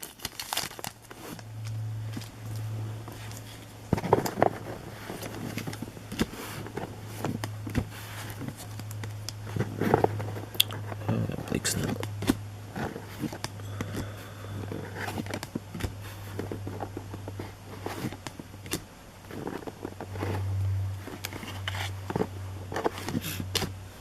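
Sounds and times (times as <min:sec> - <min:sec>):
cards and foil wrappers handled: 0:00.0 - 0:20.4
low steady hum: 0:00.0 - 0:24.0.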